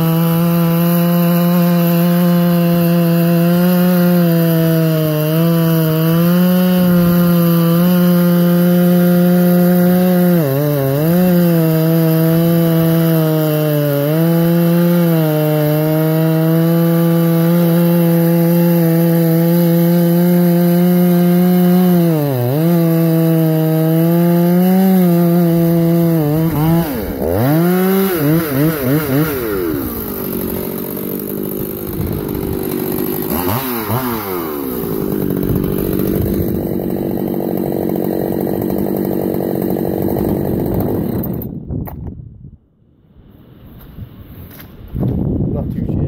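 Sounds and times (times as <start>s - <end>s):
chainsaw cutting wood: 0.0s - 42.1s.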